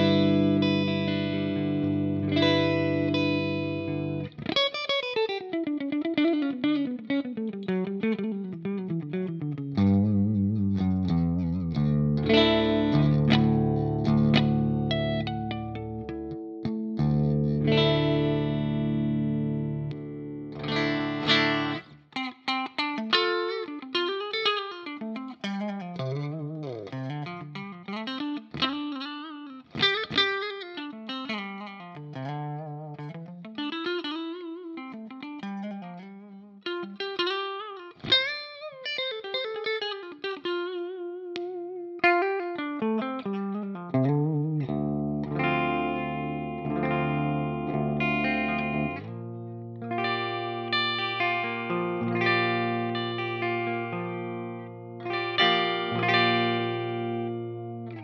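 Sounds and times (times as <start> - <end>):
electric guitar chords: 0.0 - 58.0
electric guitar lead line: 0.0 - 58.0.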